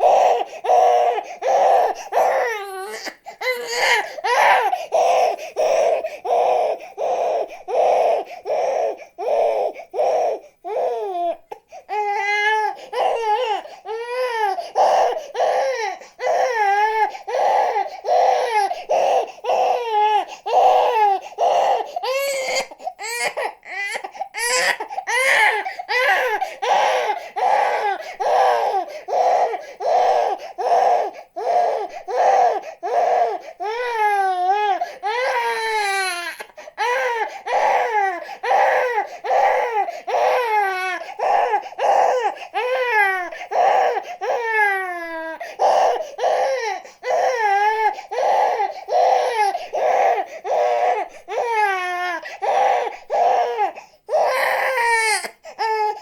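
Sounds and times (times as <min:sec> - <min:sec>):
infant crying: 0:00.0 - 0:56.0.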